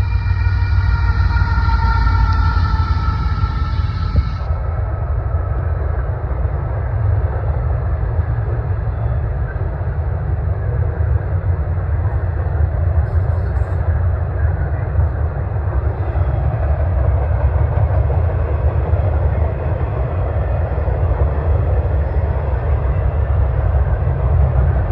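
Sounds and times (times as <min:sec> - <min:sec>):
freight train rumbling on rails: 0:00.0 - 0:24.9.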